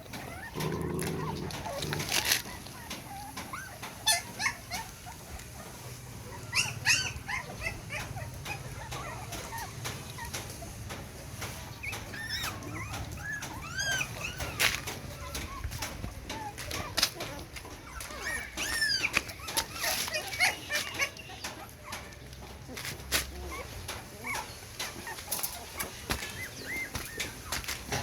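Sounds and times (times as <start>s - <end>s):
puppies whimpering and squeaking: 0.0s - 28.0s.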